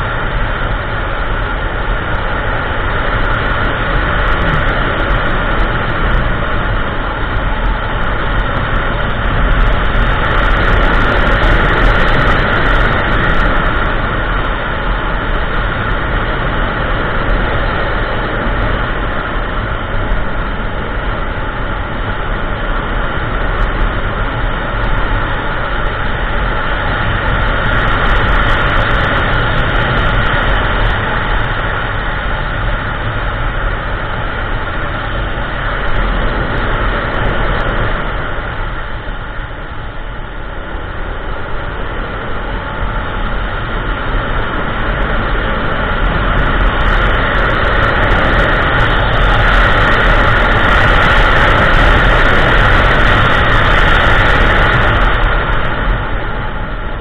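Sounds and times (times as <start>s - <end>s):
scooter engine drone: 0.0s - 57.0s
wind rush: 0.0s - 57.0s.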